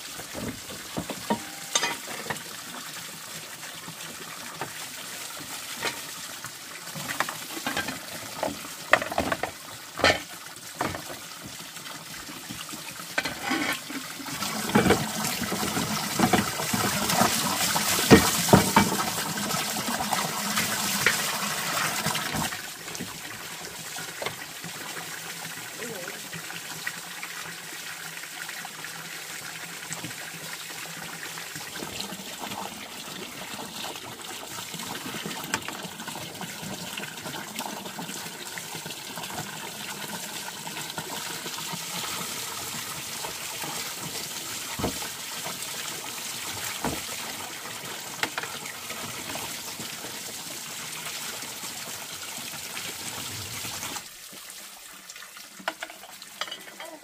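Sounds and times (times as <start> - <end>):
water trickling pour: 0.0 - 57.0.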